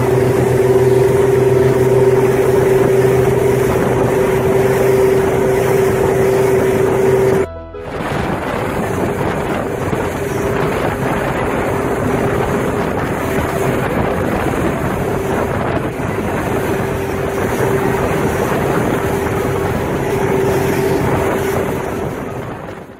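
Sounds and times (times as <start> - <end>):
motorboat engine drone: 0.0 - 22.9
water and spray rushing: 0.0 - 22.9
wind buffeting microphone: 0.0 - 22.9.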